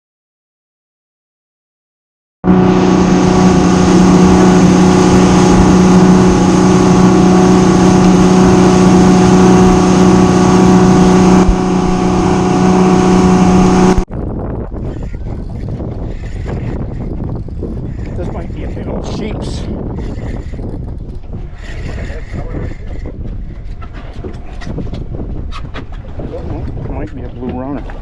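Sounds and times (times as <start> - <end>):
motorboat engine running: 2.4 - 28.0
wind and water rushing: 2.4 - 28.0.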